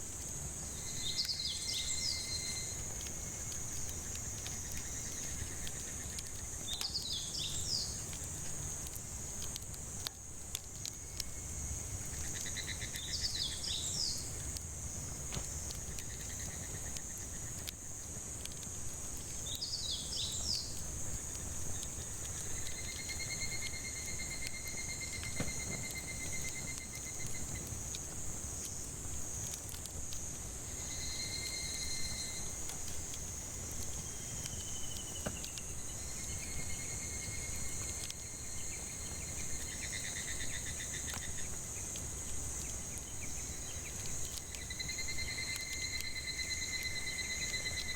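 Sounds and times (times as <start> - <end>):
campfire crackling and popping: 0.0 - 47.9
cicadas droning: 0.0 - 47.9.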